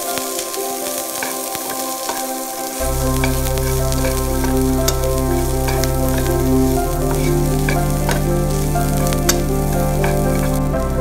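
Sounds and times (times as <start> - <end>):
onions sizzling in oil: 0.0 - 11.0
soft background music: 0.0 - 11.0.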